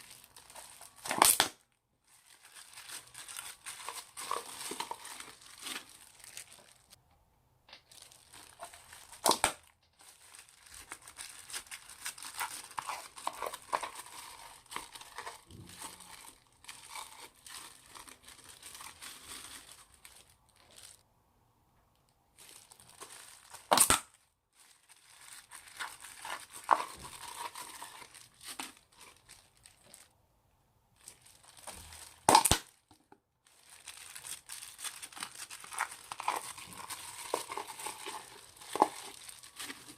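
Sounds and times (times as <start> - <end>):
slime crackling and crinkling: 0.0 - 7.0, 7.7 - 21.0, 22.3 - 30.2, 31.0 - 39.9.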